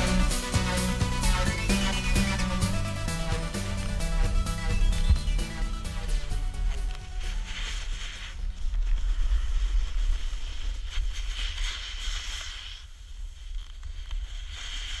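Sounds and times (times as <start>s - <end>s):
snowboard sliding over snow: 0.0s - 15.0s.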